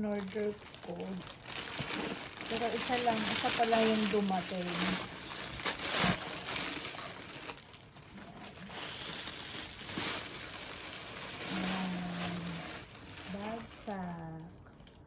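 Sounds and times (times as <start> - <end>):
packaging rustling and crinkling: 0.0 - 15.0.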